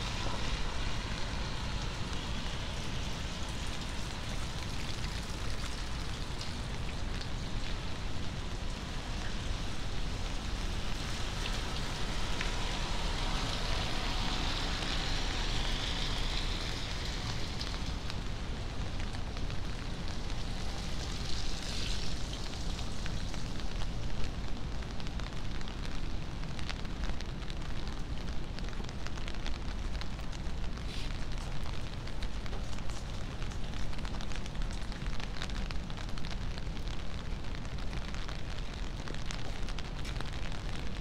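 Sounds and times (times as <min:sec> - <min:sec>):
rain hissing on wet street: 0:00.0 - 0:41.0.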